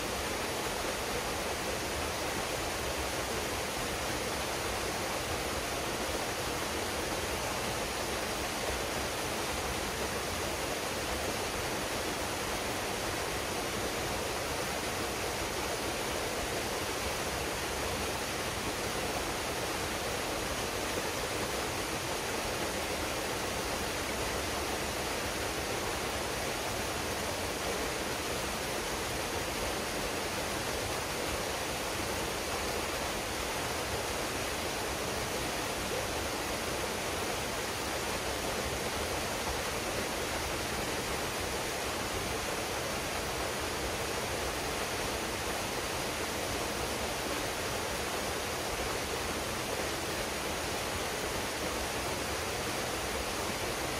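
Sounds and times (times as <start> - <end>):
waterfall rushing into pool: 0.0 - 53.9.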